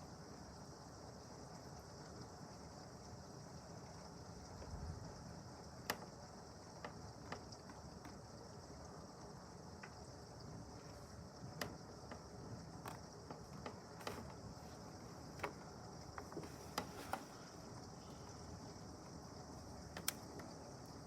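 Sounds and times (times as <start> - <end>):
muffled heavy rain hiss: 0.0 - 21.0
raindrops ticking on surfaces: 1.6 - 21.0.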